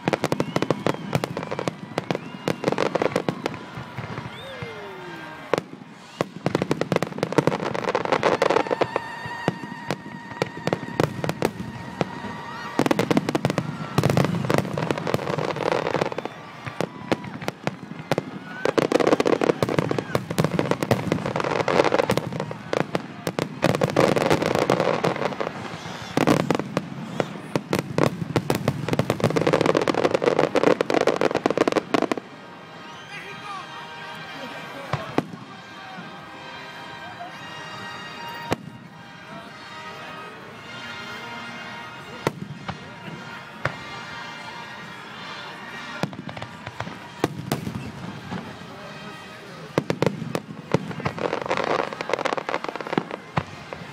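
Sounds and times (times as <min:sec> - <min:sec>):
fireworks bursting: 0:00.0 - 0:33.1, 0:41.8 - 0:53.9.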